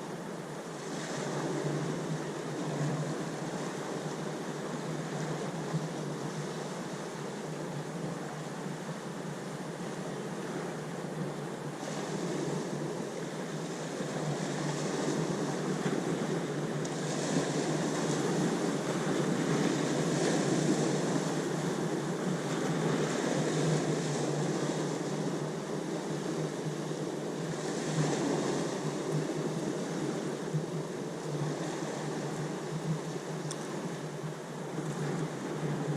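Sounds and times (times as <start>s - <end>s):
ocean waves washing in: 0.0s - 35.9s.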